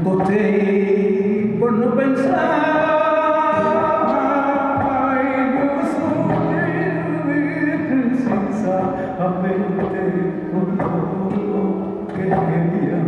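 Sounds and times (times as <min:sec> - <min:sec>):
man singing flamenco: 0:00.0 - 0:13.0.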